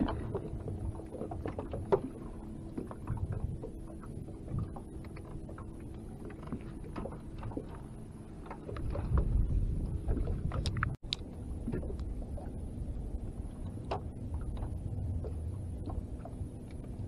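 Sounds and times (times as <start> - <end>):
faint steady hum: 0.0 - 17.0
water lapping against boat: 0.0 - 17.0.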